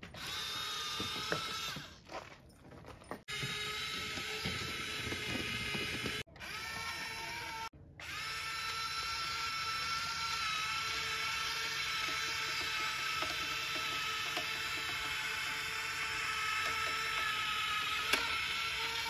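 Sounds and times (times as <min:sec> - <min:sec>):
electric motor and gearbox whining: 0:00.0 - 0:02.3, 0:03.1 - 0:19.0.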